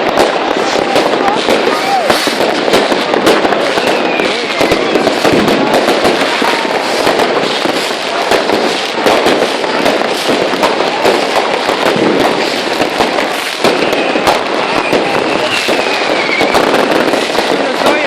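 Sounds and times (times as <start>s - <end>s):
fireworks and firecrackers crackling: 0.0s - 18.0s.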